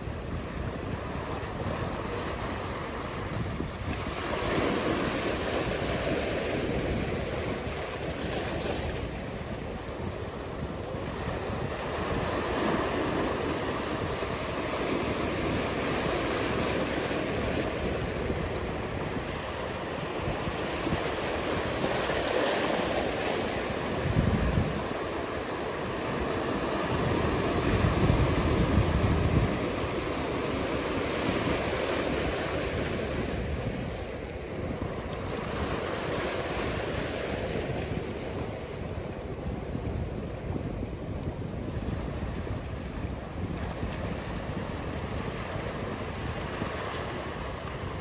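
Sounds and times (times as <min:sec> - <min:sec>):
ocean surf breaking: 0:00.0 - 0:48.0
wind buffeting microphone: 0:00.0 - 0:48.0.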